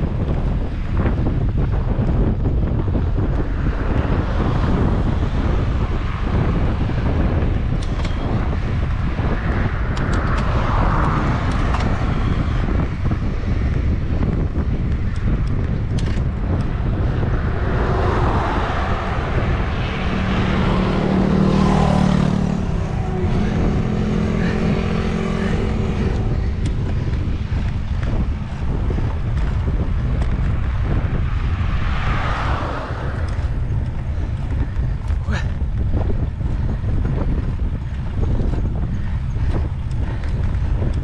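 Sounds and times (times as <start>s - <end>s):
passing motor vehicle hum: 0.0s - 41.0s
tyre noise on asphalt: 0.0s - 41.0s
wind buffeting microphone: 0.0s - 41.0s.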